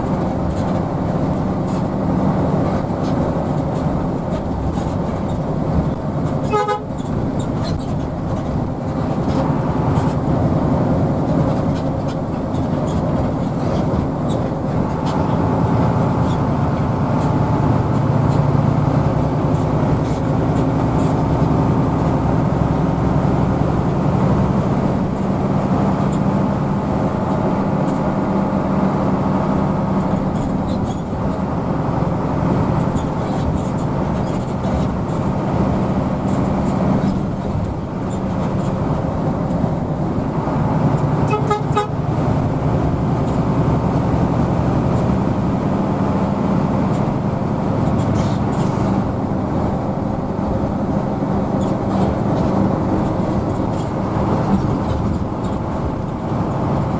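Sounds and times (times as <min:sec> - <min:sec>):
bus diesel engine drone: 0:00.0 - 0:56.9.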